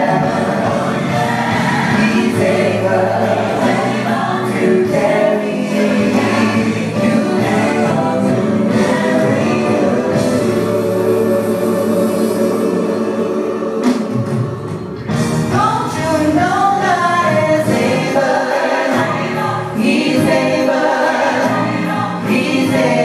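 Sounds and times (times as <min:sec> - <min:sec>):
man and women singing gospel: 0:00.0 - 0:14.7, 0:15.6 - 0:23.0.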